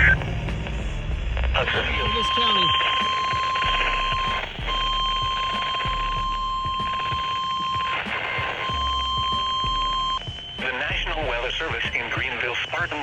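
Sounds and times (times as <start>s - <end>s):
high-pitched warning alarm tone: 0.0s - 13.0s.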